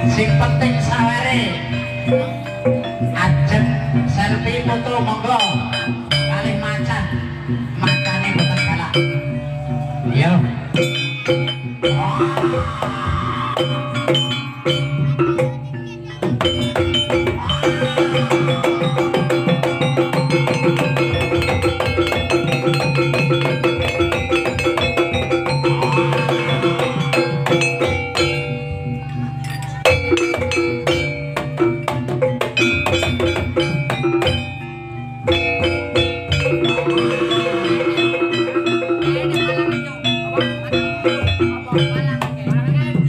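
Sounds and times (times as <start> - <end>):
drums: 0.0 - 43.0
gamelan music: 0.0 - 43.0
struck metal keyed percussion: 0.0 - 43.0.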